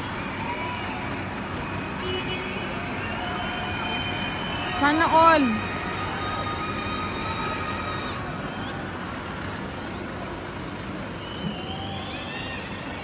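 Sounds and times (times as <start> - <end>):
low hum of vehicles: 0.0 - 13.0.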